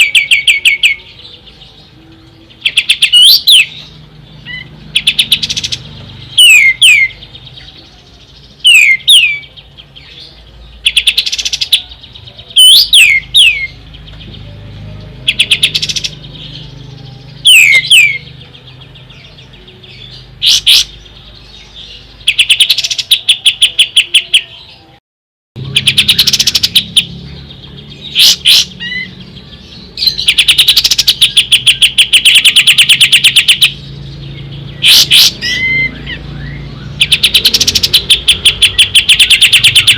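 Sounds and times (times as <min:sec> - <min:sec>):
songbird whistling and trilling: 0:00.0 - 0:14.5, 0:15.2 - 0:24.9, 0:25.6 - 0:39.9.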